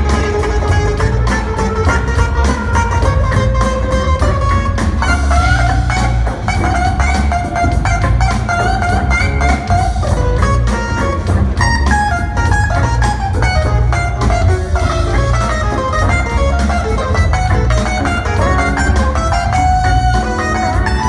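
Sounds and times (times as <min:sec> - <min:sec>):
fast lead melody: 0:00.0 - 0:21.0
heavy bass line: 0:00.0 - 0:21.0
jazz-funk band playing: 0:00.0 - 0:21.0.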